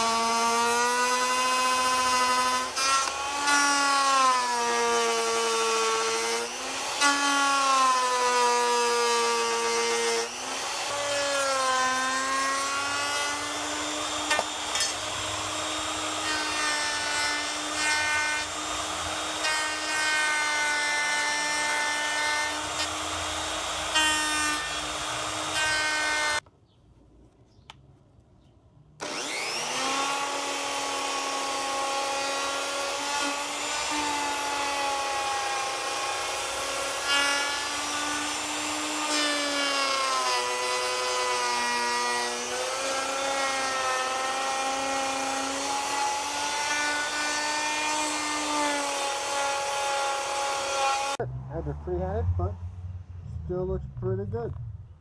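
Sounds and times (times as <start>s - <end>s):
router motor whine: 0.0s - 26.4s, 29.0s - 51.2s.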